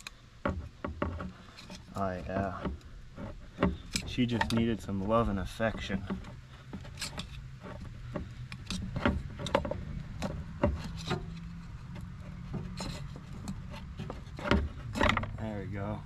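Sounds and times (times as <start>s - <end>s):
metal pipe knocking and clicking: 0.0s - 15.4s
rubbing: 0.0s - 16.0s
steady low hum: 0.0s - 16.0s.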